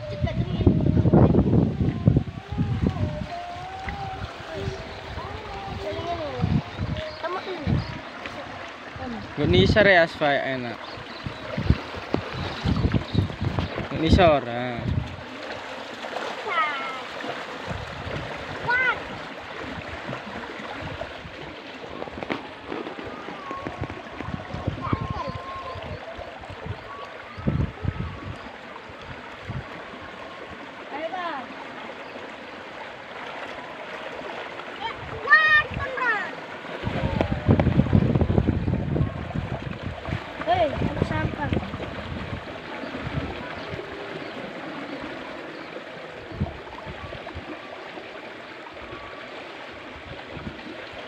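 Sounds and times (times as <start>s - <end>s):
water rushing along a ditch: 0.0s - 51.0s.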